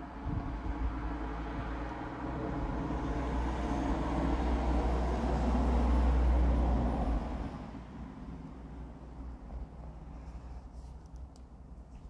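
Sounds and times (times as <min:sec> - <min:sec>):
vehicle passing by: 0:00.0 - 0:10.6.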